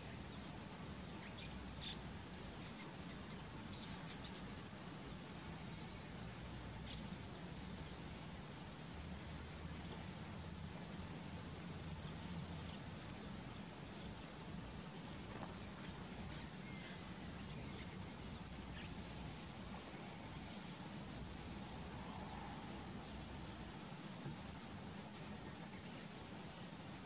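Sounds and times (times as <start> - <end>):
background hiss: 0.0 - 27.0
small birds chirping: 0.0 - 27.0.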